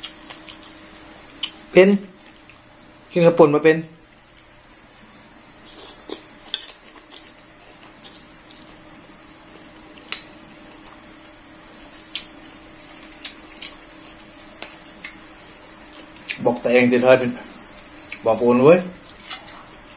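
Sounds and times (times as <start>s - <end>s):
crickets chirring: 0.0s - 19.9s.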